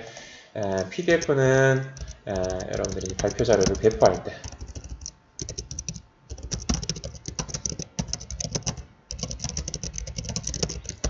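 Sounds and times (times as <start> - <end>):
computer keyboard typing: 0.8 - 1.4, 2.0 - 11.0.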